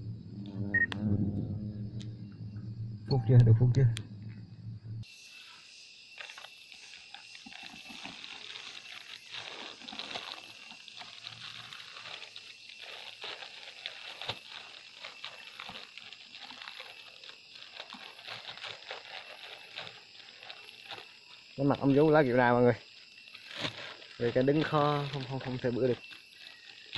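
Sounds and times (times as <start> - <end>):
high-pitched insect drone: 0.0 - 26.9.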